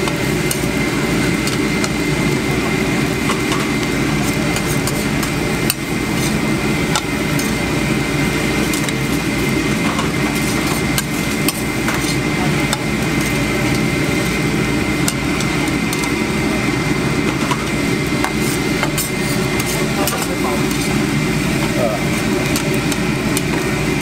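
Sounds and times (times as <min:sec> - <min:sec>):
loud rumble and hum: 0:00.0 - 0:24.0
metal spatula scraping griddle: 0:03.3 - 0:16.2, 0:17.2 - 0:23.8.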